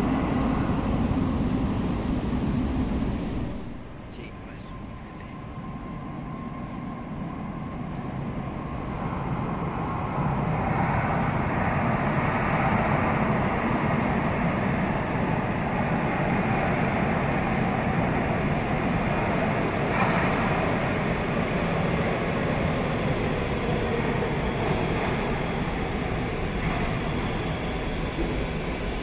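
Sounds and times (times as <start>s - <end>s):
metro train rumbling into station: 0.0s - 29.0s.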